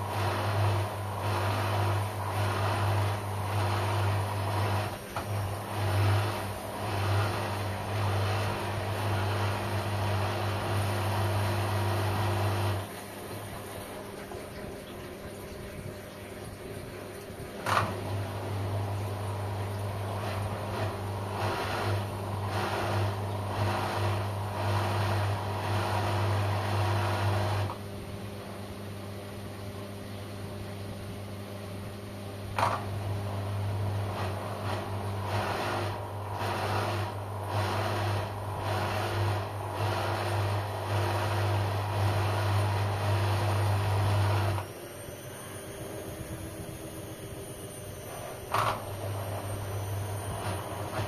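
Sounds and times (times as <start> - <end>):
washing machine motor humming: 0.0 - 51.0.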